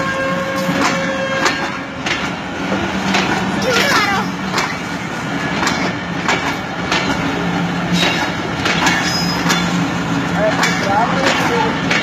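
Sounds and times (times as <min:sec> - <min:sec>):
train rumbling past: 0:00.0 - 0:12.0
train wheel clicks: 0:00.6 - 0:07.4, 0:08.0 - 0:12.0.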